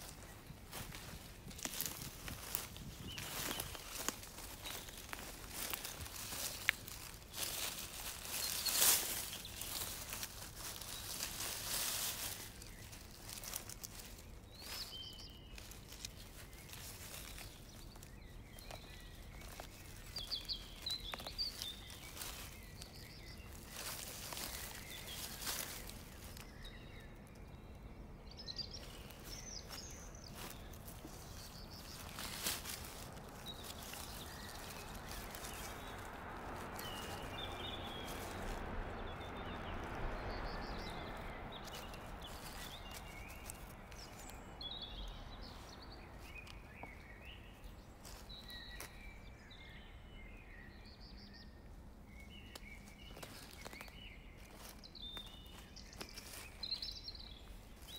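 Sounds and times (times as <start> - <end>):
dry leaves rustling and crackling: 0.0 - 50.0, 50.7 - 57.9
bird chirps: 0.0 - 57.9.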